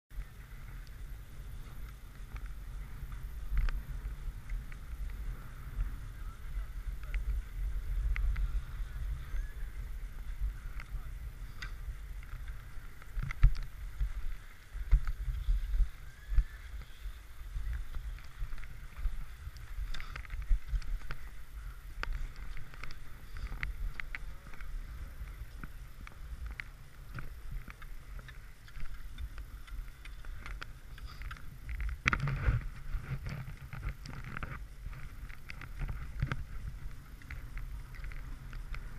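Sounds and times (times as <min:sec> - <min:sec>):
wind rumbling on microphone: 0:00.1 - 0:38.9
skis sliding over packed snow: 0:00.2 - 0:38.9.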